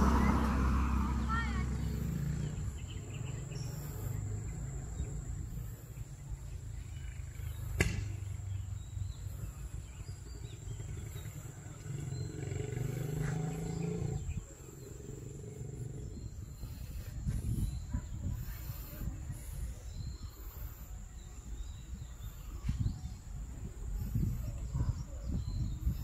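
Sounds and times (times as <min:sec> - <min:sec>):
low rumbling noise: 0:00.0 - 0:26.0.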